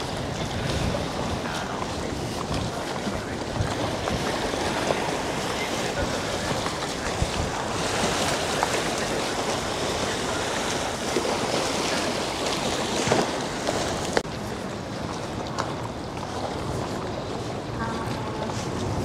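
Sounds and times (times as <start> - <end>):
water lapping against boats: 0.0 - 19.0
wind on microphone: 0.0 - 19.0.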